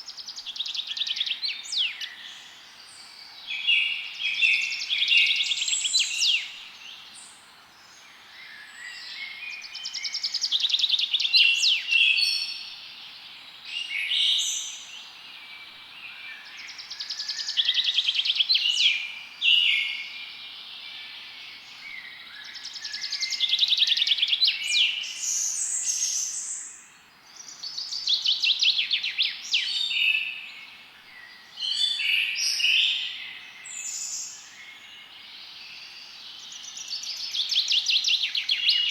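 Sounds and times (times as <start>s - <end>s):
songbird trilling song: 0.0s - 7.4s, 13.7s - 38.9s
faint background hiss: 0.0s - 38.9s.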